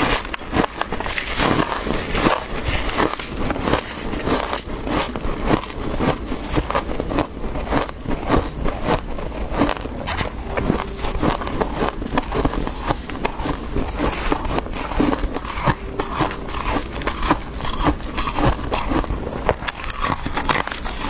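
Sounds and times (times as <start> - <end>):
crunching of frost being chewed: 0.0 - 21.0.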